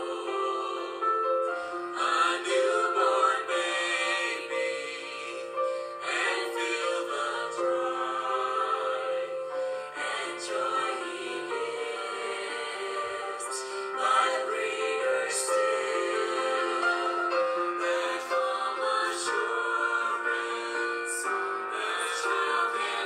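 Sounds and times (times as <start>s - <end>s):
background music with singing: 0.0s - 23.0s.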